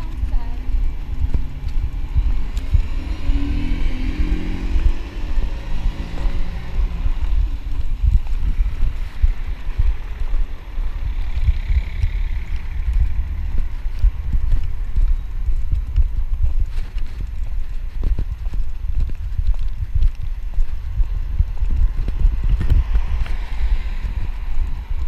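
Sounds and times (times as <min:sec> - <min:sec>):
tyre noise of passing cars: 0:00.0 - 0:25.0
vehicle engine running: 0:00.0 - 0:25.0
wind rumble on microphone: 0:00.0 - 0:25.0.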